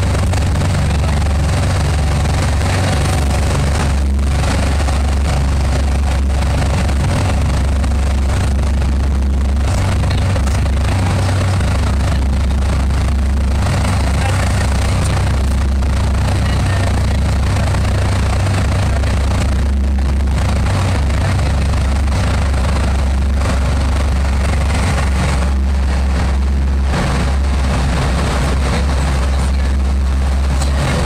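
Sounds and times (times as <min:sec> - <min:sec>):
tyres hissing on road: 0:00.0 - 0:31.0
vehicle engine and tyre rumble: 0:00.0 - 0:31.0.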